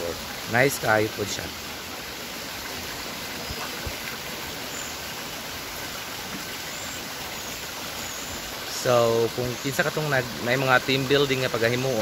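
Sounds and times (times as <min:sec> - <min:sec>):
water rushing in rocky stream: 0:00.0 - 0:12.0.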